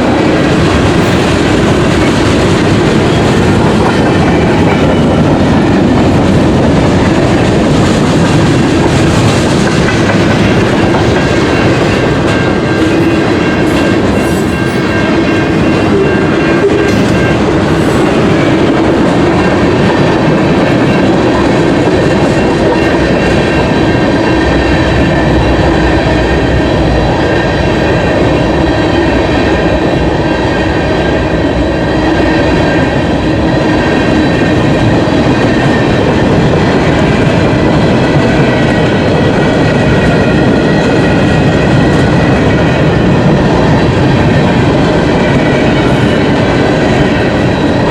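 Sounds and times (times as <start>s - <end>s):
freight train rolling by: 0.0s - 47.9s.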